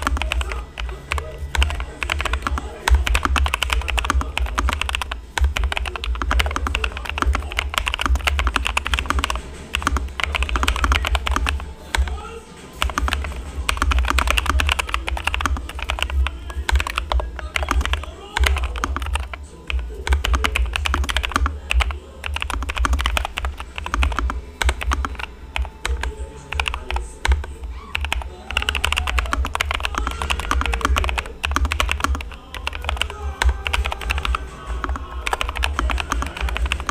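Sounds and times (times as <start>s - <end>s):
mechanical keyboard typing: 0.0s - 12.2s, 12.8s - 36.9s
background music: 0.0s - 36.9s.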